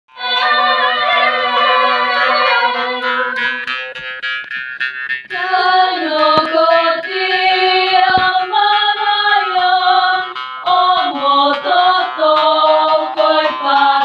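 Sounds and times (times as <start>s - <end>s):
voices singing a chant: 0.1s - 4.0s, 5.3s - 14.0s.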